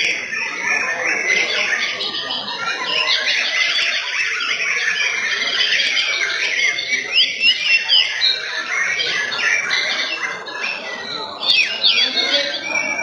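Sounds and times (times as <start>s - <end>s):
birds singing whistles and trills: 0.0s - 13.0s.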